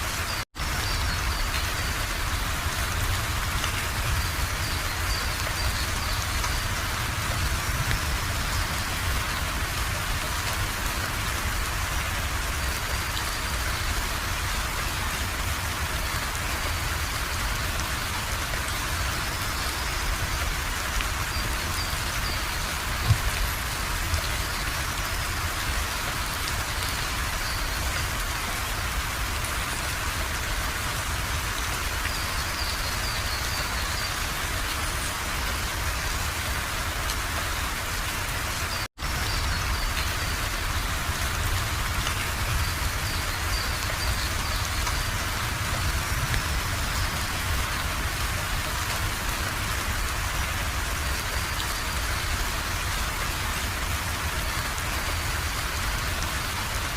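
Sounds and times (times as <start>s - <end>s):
rain pattering: 0.0s - 56.9s.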